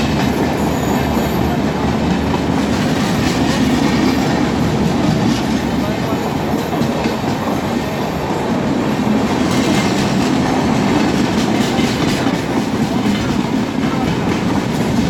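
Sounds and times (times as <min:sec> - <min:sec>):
train rumbling with wheel clatter: 0:00.0 - 0:15.0.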